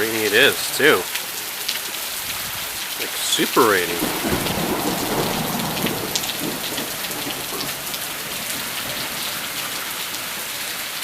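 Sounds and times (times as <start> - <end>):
heavy rain hissing: 0.0 - 11.0
raindrops ticking on surfaces: 0.0 - 11.0.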